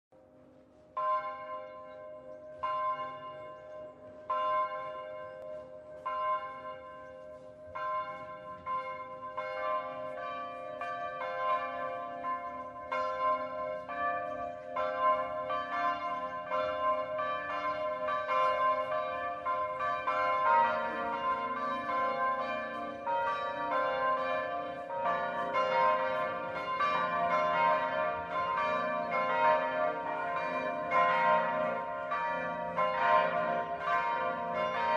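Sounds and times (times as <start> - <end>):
church bells ringing: 0.2 - 34.9.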